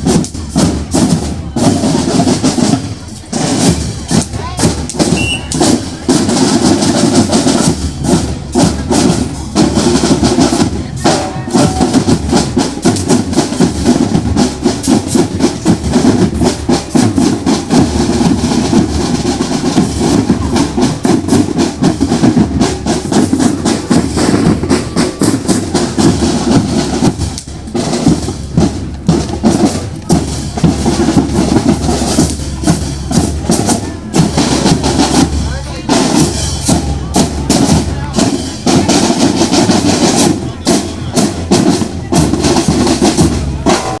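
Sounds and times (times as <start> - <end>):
fast snare and bass drumming: 0.0 - 44.0.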